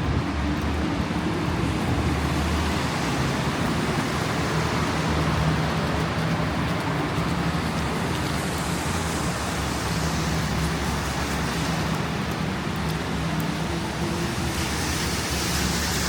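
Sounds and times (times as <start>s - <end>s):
street traffic: 0.0s - 16.0s
wind: 0.0s - 16.0s.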